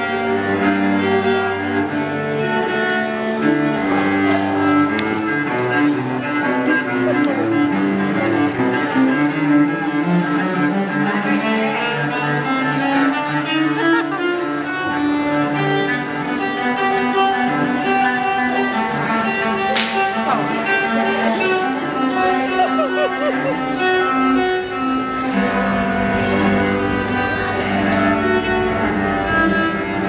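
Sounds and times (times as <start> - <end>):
bowed cello notes: 0.0 - 30.0.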